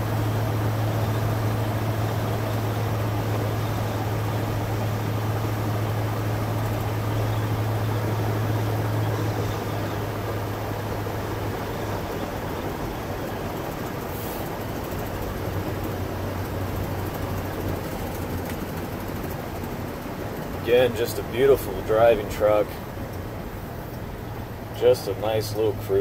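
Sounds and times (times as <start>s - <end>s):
pickup engine drone: 0.0s - 26.0s
road and tyre noise: 0.0s - 26.0s.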